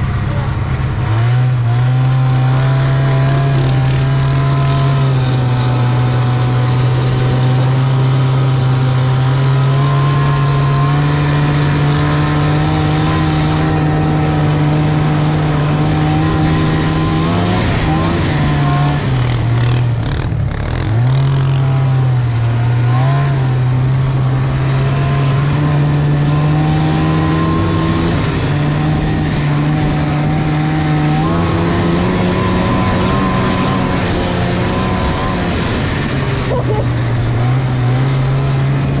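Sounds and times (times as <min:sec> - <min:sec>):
continuous rushing noise: 0:00.0 - 0:39.0
snowmobile engine running: 0:00.0 - 0:39.0.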